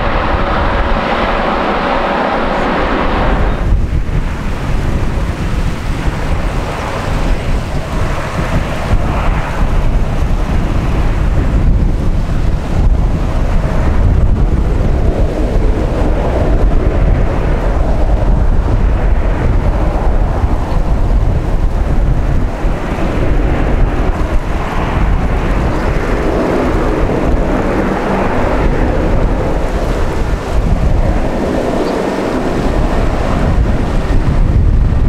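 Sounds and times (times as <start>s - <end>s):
jet engines running at low thrust: 0.0s - 35.0s
wind buffeting microphone: 0.0s - 35.0s.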